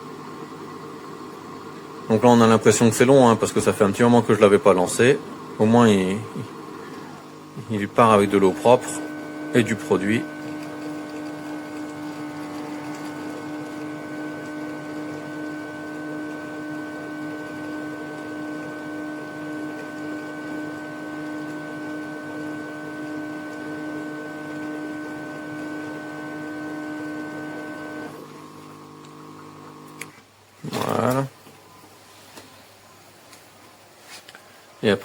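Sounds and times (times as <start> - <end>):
base station pump humming: 0.0 - 35.0.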